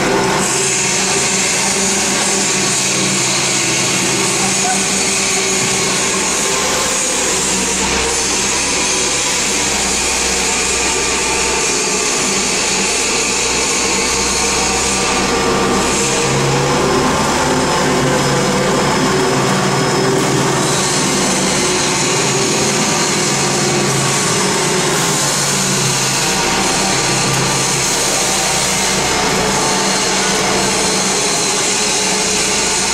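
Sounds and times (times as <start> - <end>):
machinery humming: 0.0 - 32.9.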